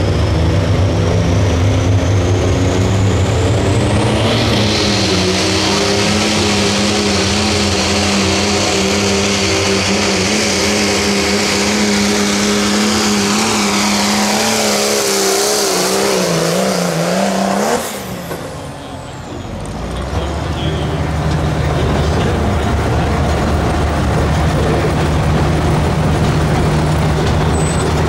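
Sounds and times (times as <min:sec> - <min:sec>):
diesel engine revving under load: 0:00.0 - 0:28.0.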